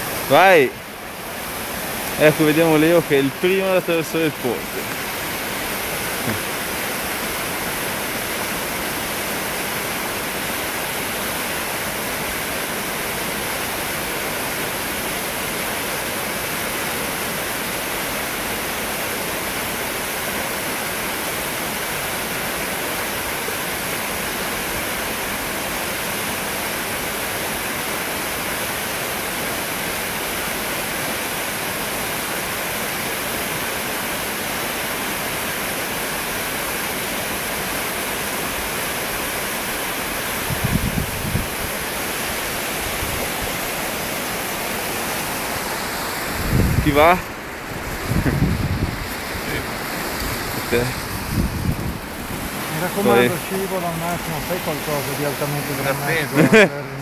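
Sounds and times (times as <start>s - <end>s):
river rushing through rapids: 0.0s - 57.0s.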